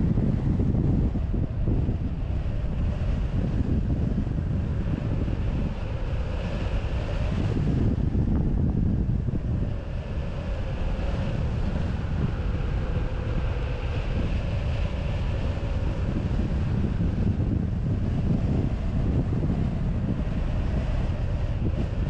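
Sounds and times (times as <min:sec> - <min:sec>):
wind buffeting a microphone: 0:00.0 - 0:22.0.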